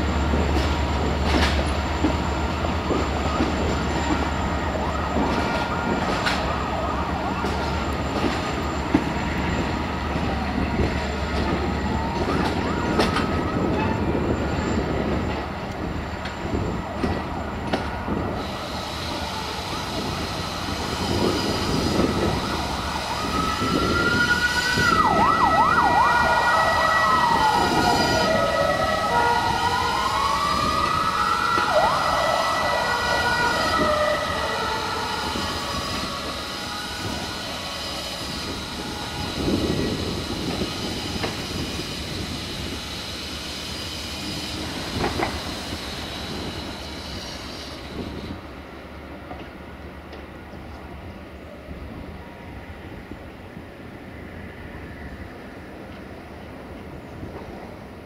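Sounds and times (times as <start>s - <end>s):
train rumbling over points: 0.0s - 58.0s.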